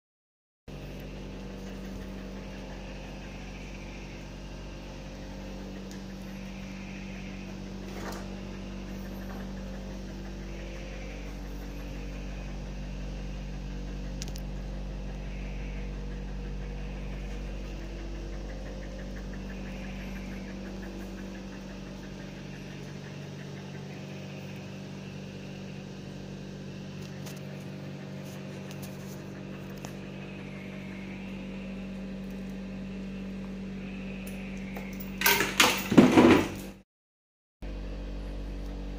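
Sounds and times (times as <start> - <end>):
low mechanical hum: 0.7 - 36.8, 37.6 - 38.9.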